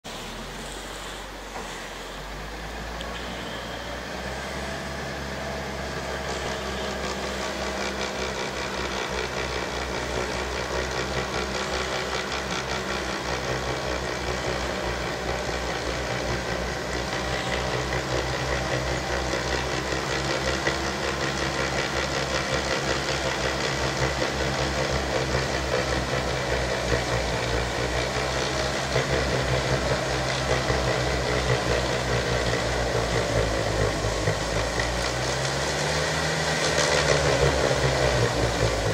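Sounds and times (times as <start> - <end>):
snow blower throwing snow: 0.0 - 38.9
tractor engine running under load: 0.0 - 38.9.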